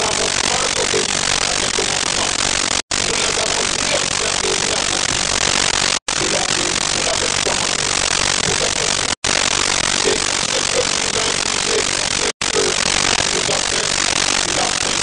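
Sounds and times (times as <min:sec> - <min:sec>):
faint pitched sounds: 0:00.0 - 0:15.0
loud static hiss: 0:00.0 - 0:15.0.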